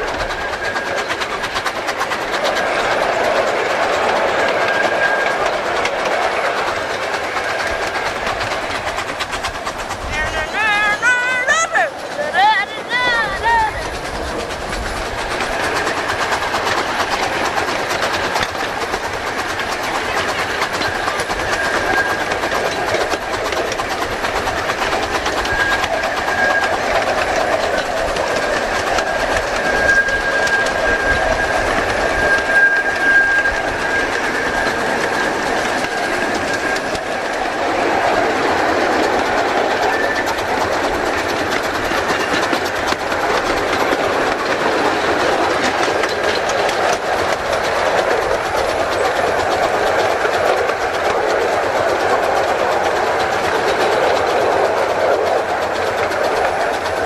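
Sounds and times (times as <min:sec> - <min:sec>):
wheels clattering over rails: 0:00.0 - 0:57.0.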